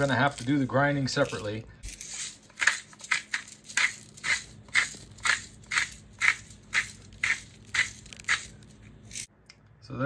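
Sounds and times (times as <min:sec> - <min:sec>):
salt grinder crunching salt: 0:00.0 - 0:09.3.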